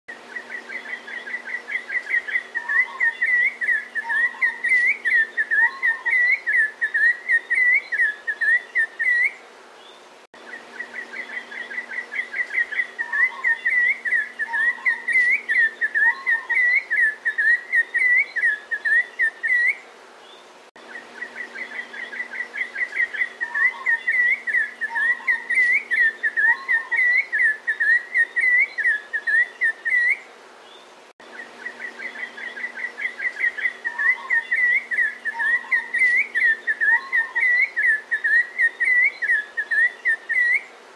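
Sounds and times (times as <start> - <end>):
birds chirping high whistled notes: 0.1 - 40.7
lower bird calls: 0.1 - 40.8.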